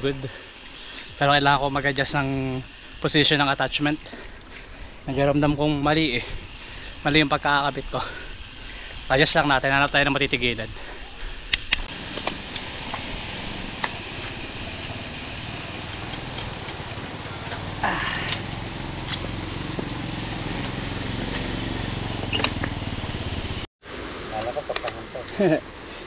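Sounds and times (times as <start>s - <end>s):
bike tyres on paved road: 0.0s - 24.0s.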